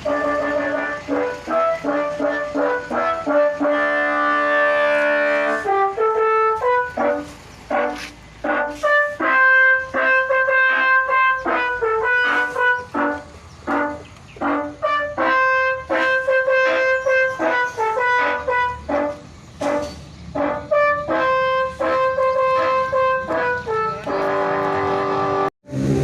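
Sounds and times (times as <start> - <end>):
air horns playing a melody: 0.0 - 26.0.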